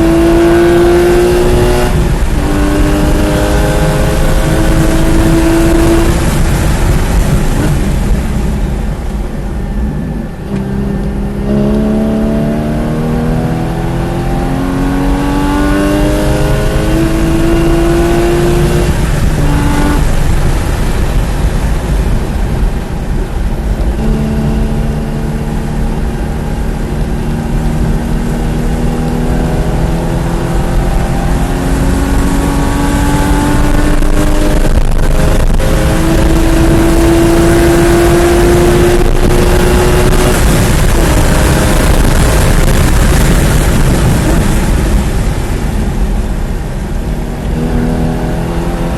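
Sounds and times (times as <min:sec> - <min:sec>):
sports car engine revving: 0:00.0 - 0:08.8, 0:09.5 - 0:48.9
road and wind noise: 0:00.0 - 0:48.9.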